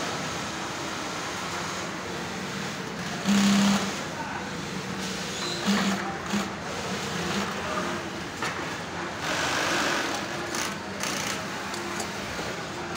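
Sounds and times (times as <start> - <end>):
industrial sewing machines running: 0.0 - 12.9.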